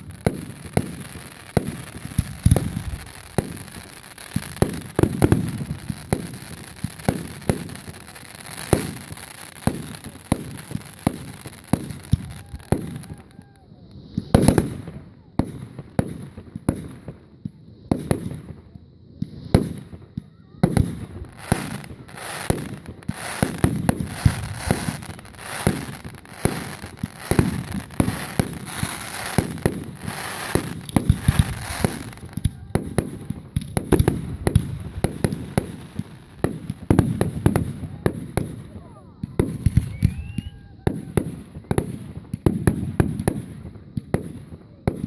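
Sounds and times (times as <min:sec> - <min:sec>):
fireworks bangs and pops: 0:00.0 - 0:45.0.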